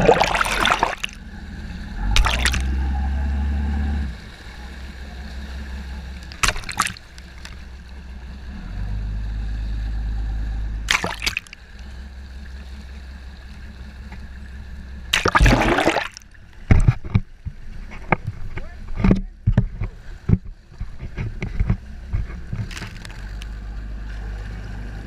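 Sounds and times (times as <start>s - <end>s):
sea water splashing and gurgling: 0.0s - 25.0s.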